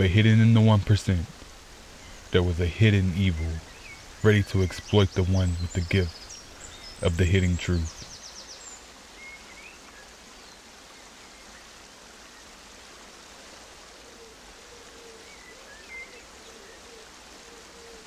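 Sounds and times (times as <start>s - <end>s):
outdoor ambience hiss: 0.0s - 18.0s.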